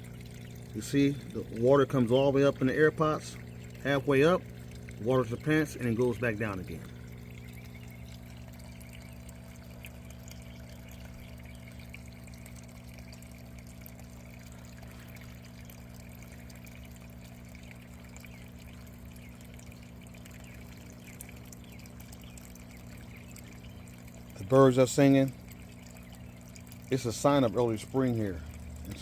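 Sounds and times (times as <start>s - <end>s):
water pouring and trickling: 0.0s - 29.0s.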